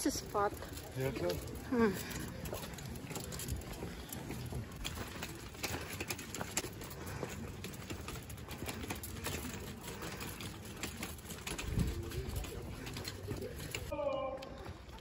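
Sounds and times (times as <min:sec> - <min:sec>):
footsteps on stone path: 0:00.0 - 0:15.0.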